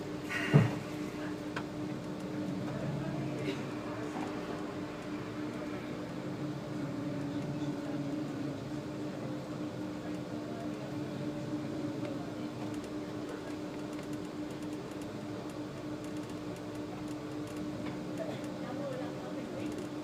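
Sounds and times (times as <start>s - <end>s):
road and drivetrain noise: 0.8s - 20.0s.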